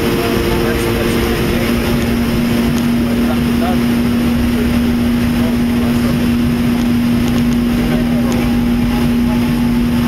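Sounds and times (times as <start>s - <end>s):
constant low hum: 0.0s - 10.0s
jet engine and airflow rush: 0.0s - 10.0s.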